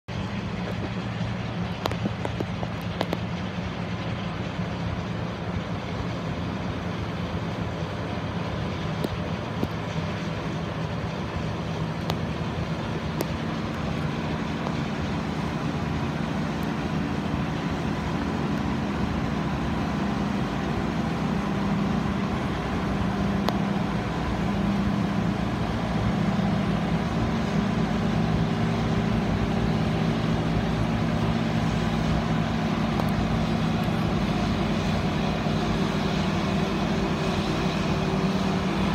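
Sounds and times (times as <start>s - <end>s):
combine harvester drone: 0.1s - 38.9s.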